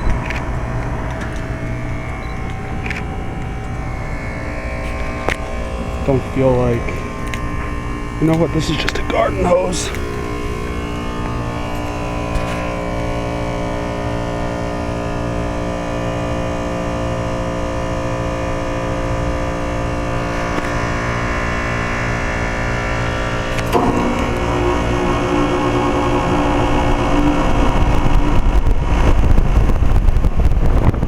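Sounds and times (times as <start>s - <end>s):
air conditioner compressor humming: 0.0s - 29.6s.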